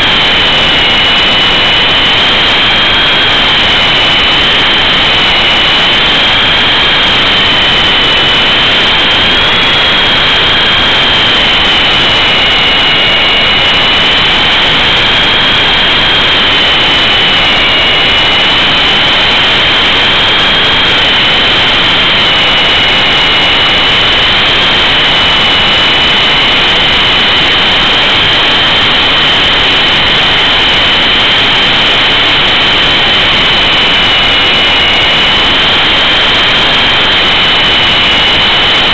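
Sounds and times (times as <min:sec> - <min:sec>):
helicopter motor and gear whine: 0:00.0 - 0:38.9.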